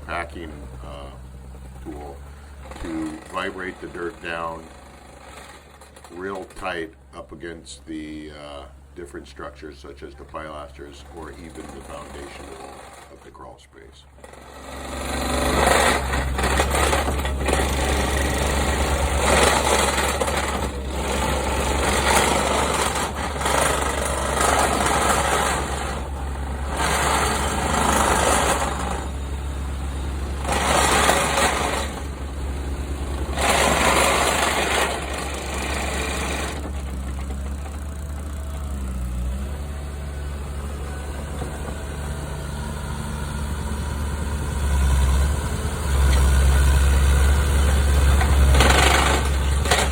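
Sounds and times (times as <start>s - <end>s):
excavator engine running: 0.0s - 49.9s
vibratory compactor packing dirt: 0.0s - 49.9s.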